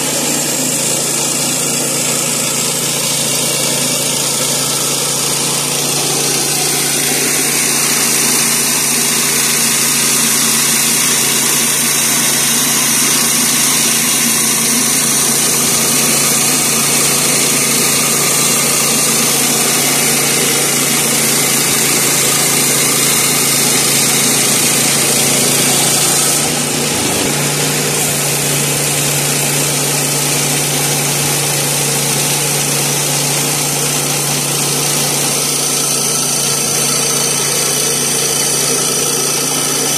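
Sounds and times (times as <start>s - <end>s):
band saw blade cutting wood: 0.0s - 39.9s
gasoline engine running under load: 0.0s - 39.9s.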